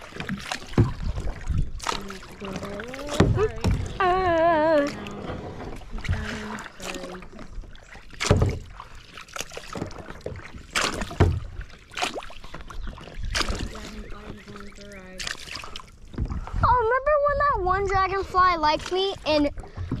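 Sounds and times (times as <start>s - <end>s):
paddle splashing through water: 0.0s - 20.0s.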